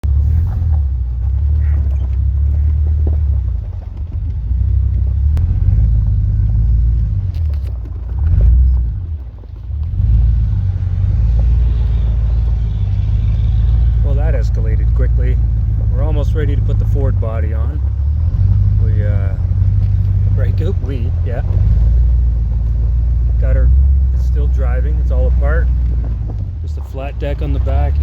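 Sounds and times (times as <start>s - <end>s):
vehicle engine low rumble: 0.0s - 28.0s.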